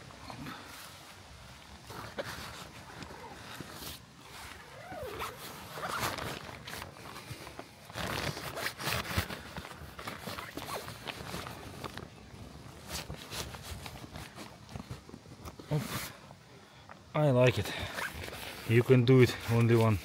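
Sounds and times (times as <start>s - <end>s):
tent zip being pulled: 1.6s - 16.2s, 17.8s - 20.0s.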